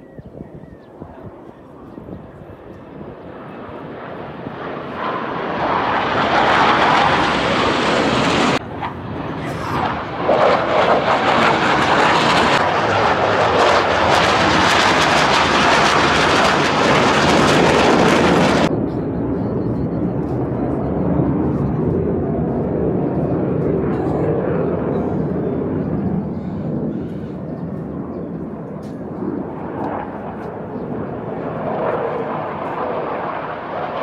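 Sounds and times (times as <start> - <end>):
jet engines roaring past: 0.0 - 34.0.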